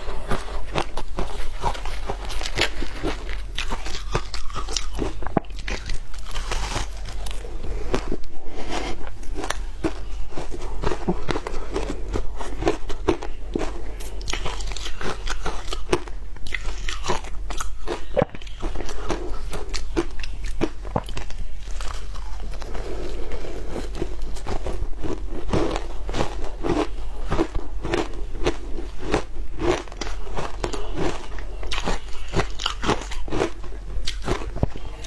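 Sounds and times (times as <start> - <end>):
person crunching ice: 0.0 - 35.0.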